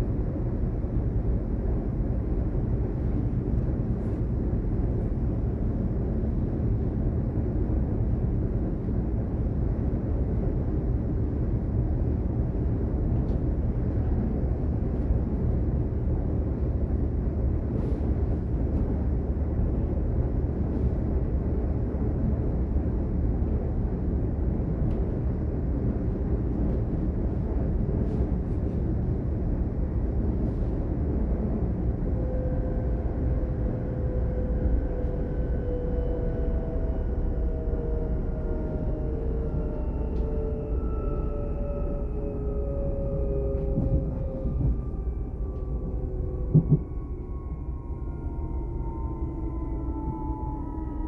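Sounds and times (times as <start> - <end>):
train rumbling on track: 0.0 - 51.0.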